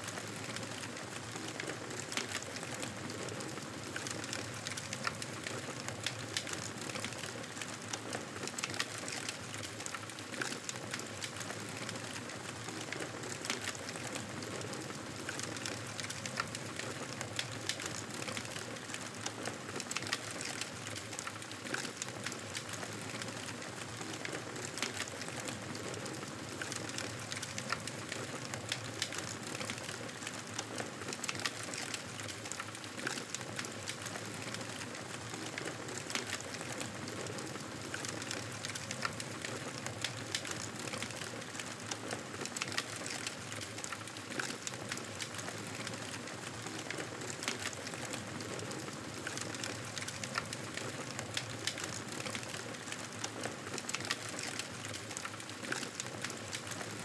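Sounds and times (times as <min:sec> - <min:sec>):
campfire crackling and popping: 0:00.2 - 0:57.0.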